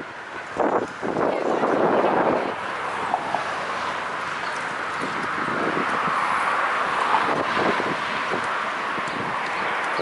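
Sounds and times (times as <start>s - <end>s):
bicycles riding past: 0.0s - 10.0s
street noise: 0.0s - 10.0s
wind on microphone: 0.0s - 10.0s.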